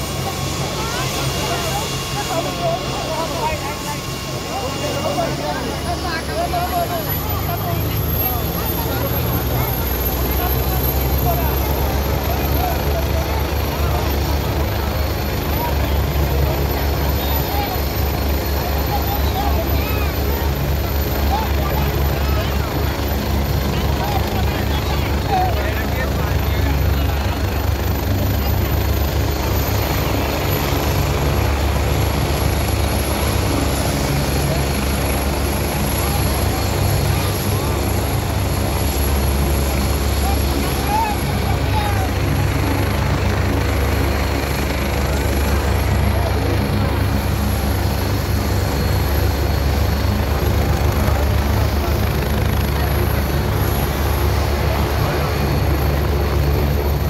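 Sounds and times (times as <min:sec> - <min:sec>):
helicopter engine hiss: 0:00.0 - 0:57.0
helicopter rotor chop: 0:00.0 - 0:57.0
turbine whine: 0:00.0 - 0:57.0.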